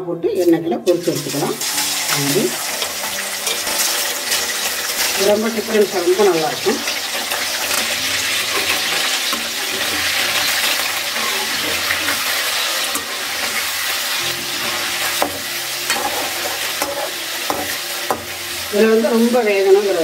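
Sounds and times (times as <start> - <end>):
chicken sizzling in hot oil: 0.8 - 20.0.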